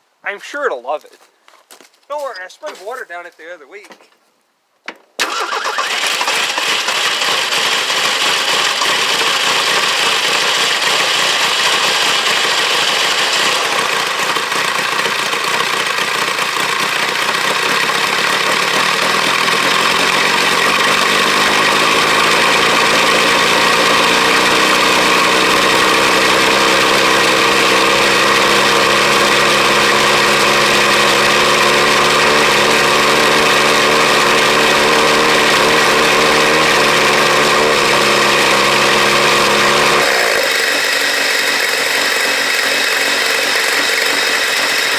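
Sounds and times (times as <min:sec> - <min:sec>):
car engine idling: 0:05.2 - 0:44.9.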